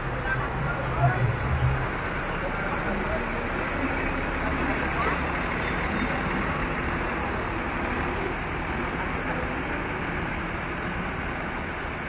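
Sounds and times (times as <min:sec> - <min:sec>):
buses and traffic running: 0:00.0 - 0:12.0.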